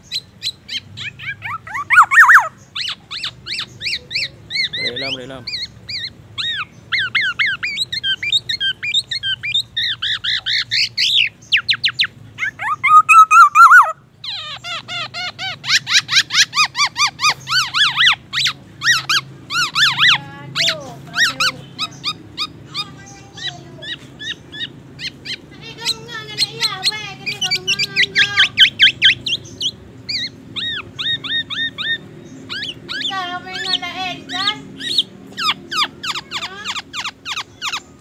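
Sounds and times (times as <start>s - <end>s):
oriole singing whistled notes: 0.0s - 38.0s.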